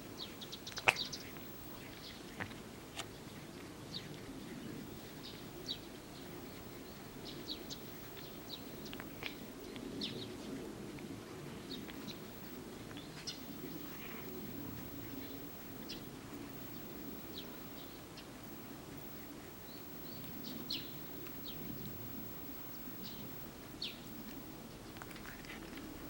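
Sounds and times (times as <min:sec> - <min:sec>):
low background hum: 0:00.0 - 0:26.0
small birds chirping: 0:00.1 - 0:10.5, 0:11.7 - 0:26.0.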